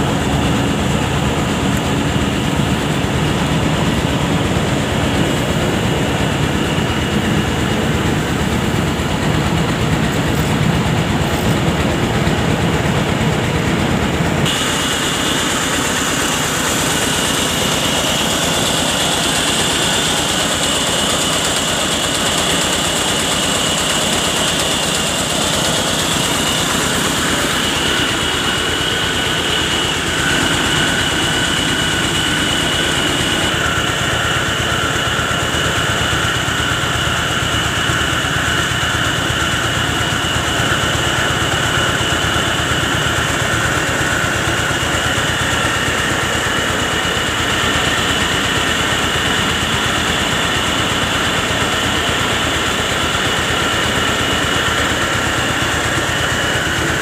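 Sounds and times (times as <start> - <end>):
rice mill machinery running: 0.0 - 57.0
steady high whine: 0.0 - 57.0.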